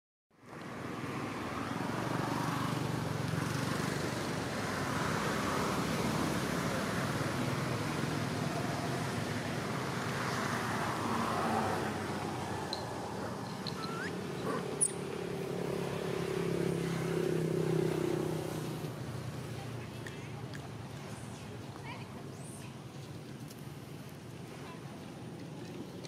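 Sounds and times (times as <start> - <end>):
road traffic rumble and hiss: 0.4 - 26.0.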